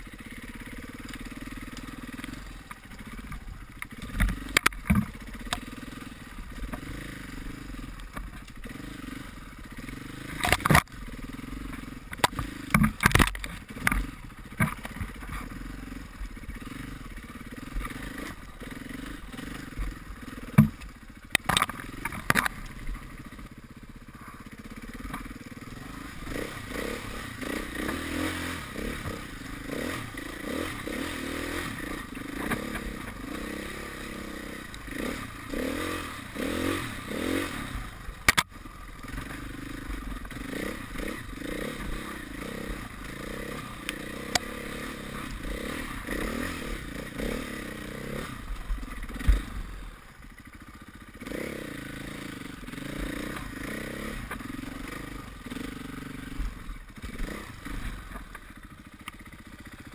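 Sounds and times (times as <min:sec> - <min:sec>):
knocks and clatter over rough ground: 0:00.0 - 0:59.9
motorcycle engine revving: 0:00.0 - 0:59.9.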